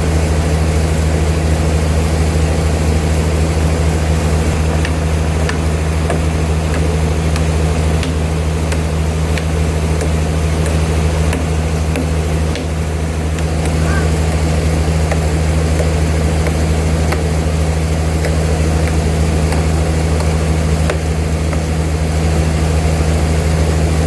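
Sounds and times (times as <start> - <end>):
sawmill machinery droning: 0.0 - 24.0.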